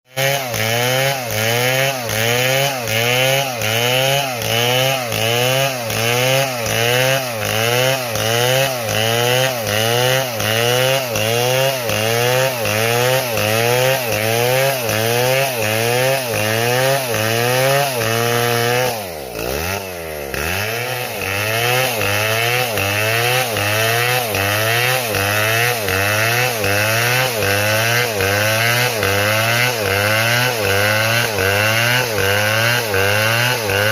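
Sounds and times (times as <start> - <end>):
chainsaw revving sawing wood: 0.1 - 33.9.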